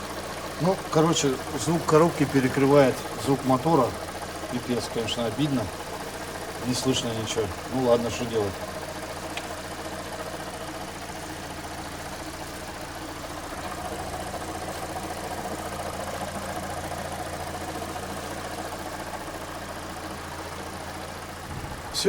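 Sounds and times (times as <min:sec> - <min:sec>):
car engine idling: 0:00.0 - 0:22.0
gearbox drone: 0:00.0 - 0:22.0.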